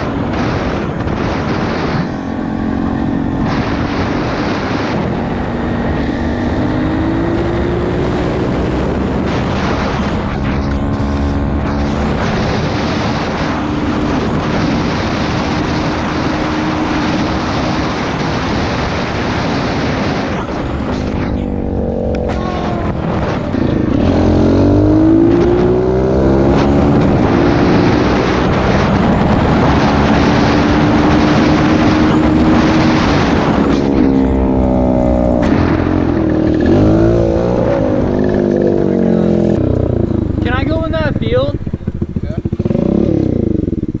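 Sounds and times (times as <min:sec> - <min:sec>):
motorbike engine running: 0:00.0 - 0:44.0
wind rush on microphone: 0:00.0 - 0:44.0.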